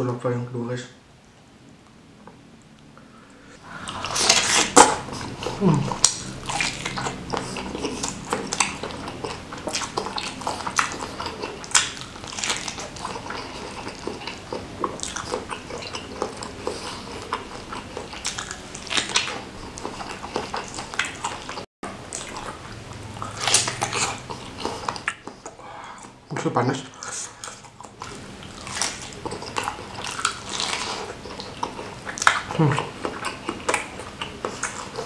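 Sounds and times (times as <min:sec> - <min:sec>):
person chewing with mouth smacks: 0:03.6 - 0:26.2, 0:26.9 - 0:35.0.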